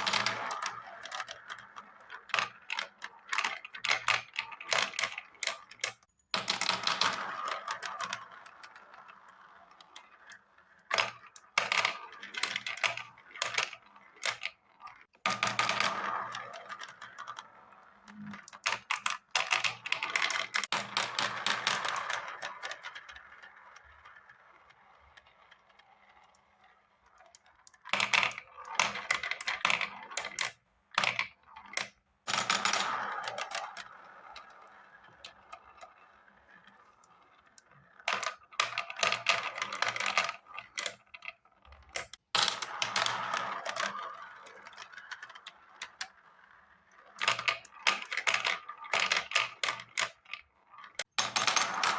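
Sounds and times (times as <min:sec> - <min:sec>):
marbles clattering down a marble run: 0:00.0 - 0:51.9.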